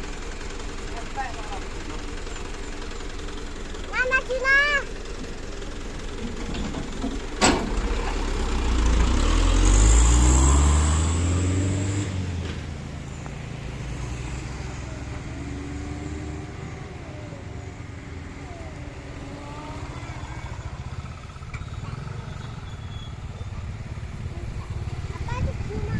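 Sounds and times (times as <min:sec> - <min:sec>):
diesel engine revving: 0:00.0 - 0:25.9.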